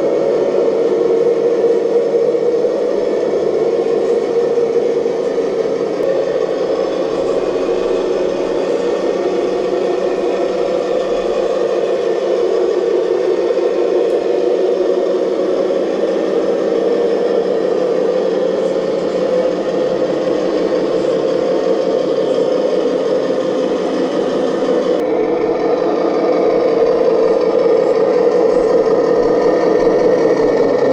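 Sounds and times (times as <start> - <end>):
model excavator whirring: 0.0 - 30.9.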